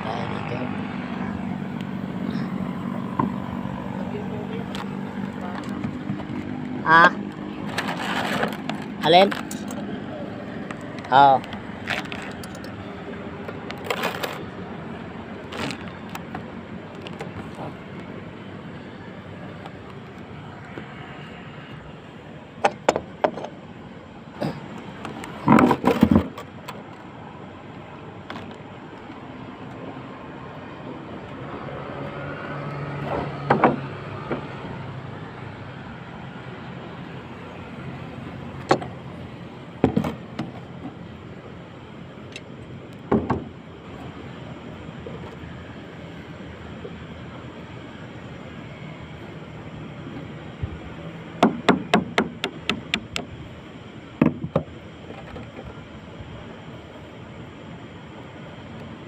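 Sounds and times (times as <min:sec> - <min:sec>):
distant traffic hum: 0:00.0 - 0:59.0.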